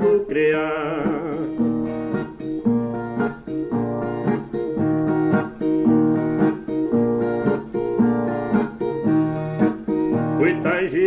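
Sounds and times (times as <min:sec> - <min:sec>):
guitar-like chords strummed: 0:00.0 - 0:11.0.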